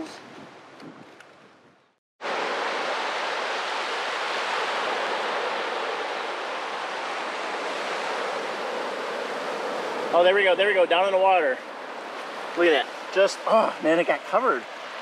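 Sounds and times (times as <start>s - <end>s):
surf washing up beach: 2.2s - 15.0s.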